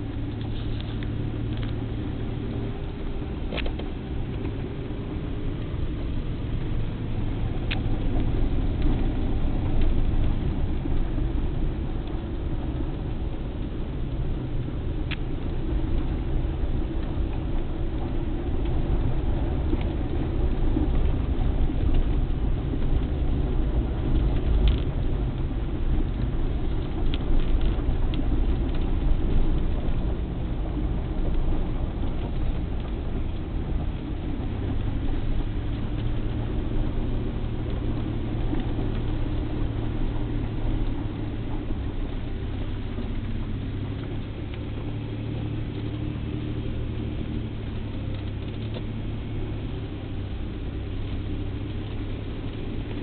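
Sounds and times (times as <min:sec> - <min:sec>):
car engine and tyre rumble: 0:00.0 - 0:53.0
low hum: 0:00.0 - 0:53.0.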